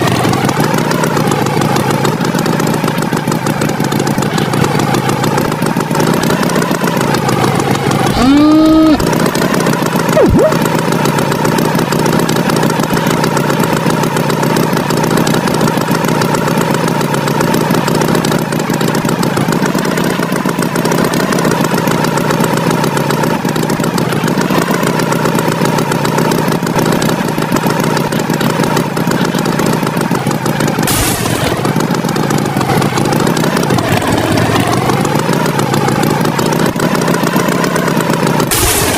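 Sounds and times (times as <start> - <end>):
tractor engine chugging: 0.0 - 38.9.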